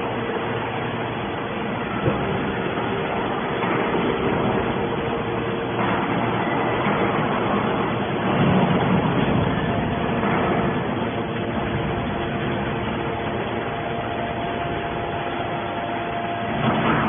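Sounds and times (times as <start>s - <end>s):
hydraulic baler humming and whining: 0.0s - 17.0s.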